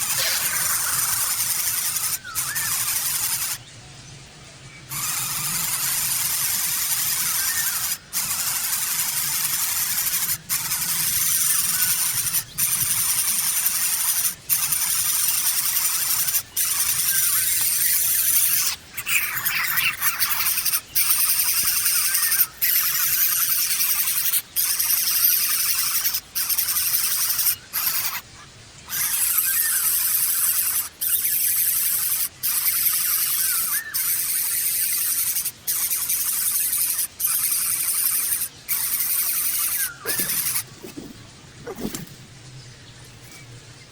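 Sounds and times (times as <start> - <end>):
bird chirps: 0.0 - 3.7, 4.8 - 28.2, 28.9 - 43.5
birds hissing squeal: 0.0 - 3.7, 4.9 - 42.2.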